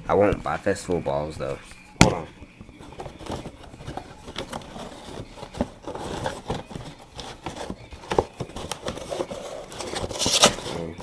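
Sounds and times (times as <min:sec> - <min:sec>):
objects tapping and rustling: 0:02.0 - 0:11.0.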